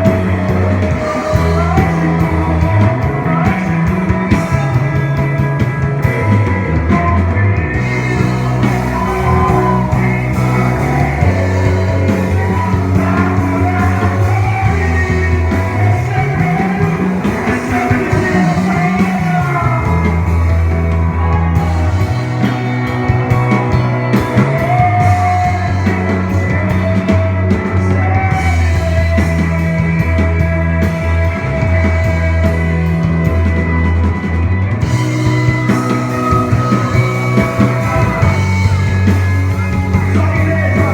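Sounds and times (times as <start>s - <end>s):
band playing rock music: 0.0s - 40.9s
sliding bass notes: 0.0s - 40.9s.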